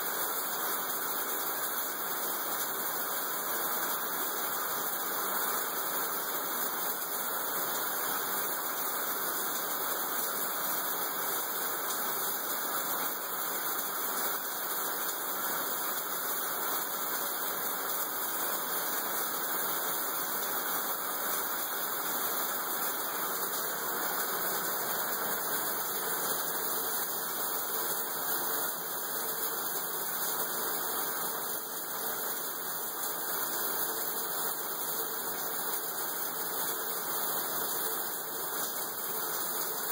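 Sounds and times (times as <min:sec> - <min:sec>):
steady hiss: 0:00.1 - 0:39.9.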